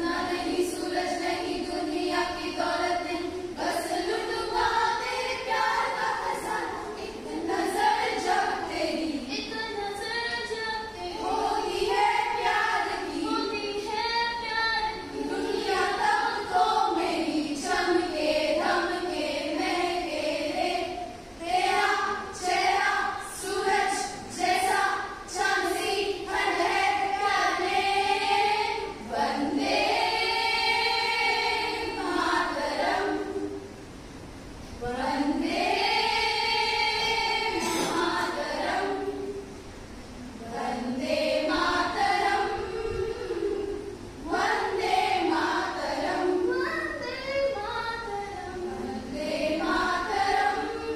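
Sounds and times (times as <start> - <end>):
women's choir singing: 0.0 - 33.9, 34.8 - 50.9.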